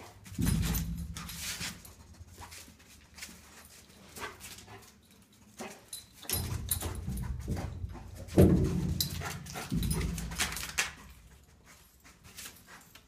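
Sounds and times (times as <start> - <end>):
dog pawing and scratching: 0.0 - 13.0.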